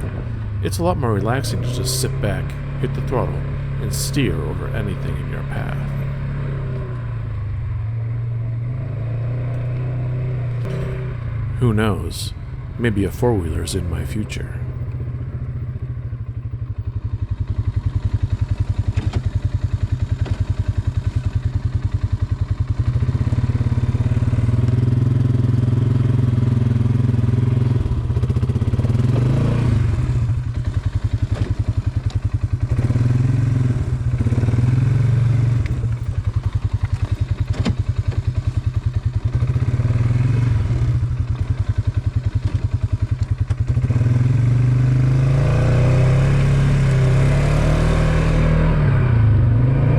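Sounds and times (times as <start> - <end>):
atv engine under throttle: 0.0 - 49.9.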